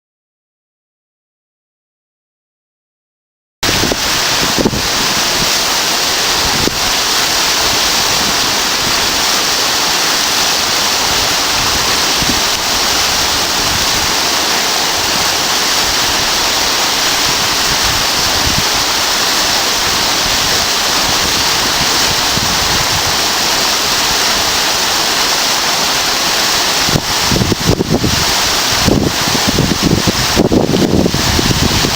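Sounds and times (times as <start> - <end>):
water rushing: 3.6 - 31.9.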